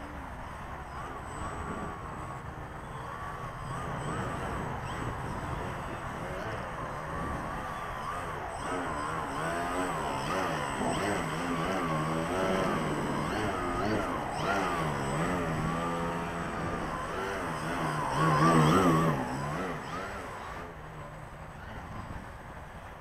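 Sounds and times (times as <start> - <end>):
model plane motor and propeller: 0.0 - 23.0.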